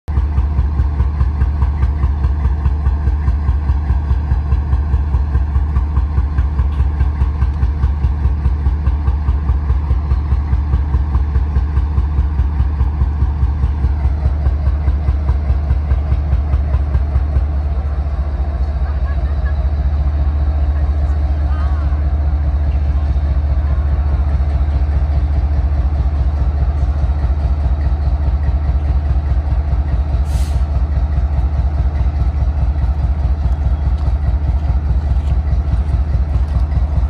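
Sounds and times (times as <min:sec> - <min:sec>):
locomotive diesel engine idling: 0:00.0 - 0:37.0.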